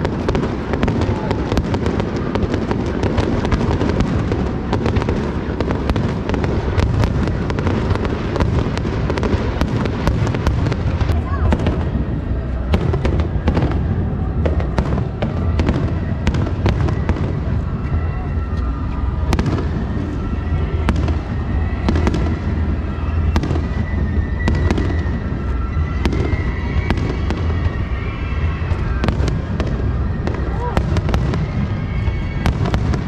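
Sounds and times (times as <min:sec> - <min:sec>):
fireworks cracking and popping: 0:00.0 - 0:33.0
low rumble: 0:00.0 - 0:33.0.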